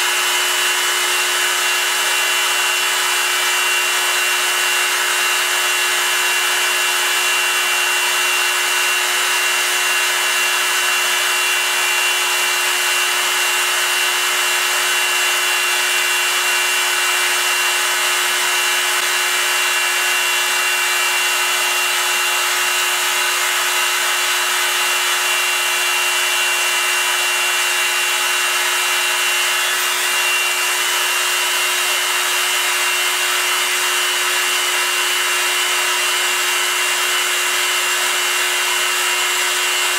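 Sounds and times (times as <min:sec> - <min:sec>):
milling machine spindle whine: 0:00.0 - 0:39.9.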